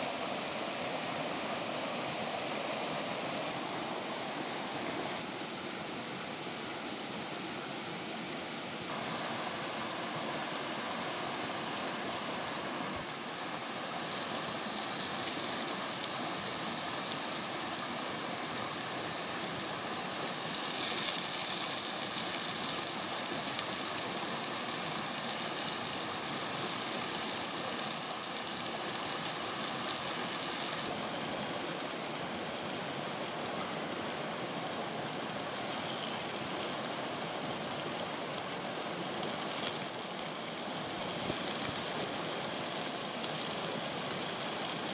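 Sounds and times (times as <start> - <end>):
small stream rushing over rocks: 0.0 - 44.9.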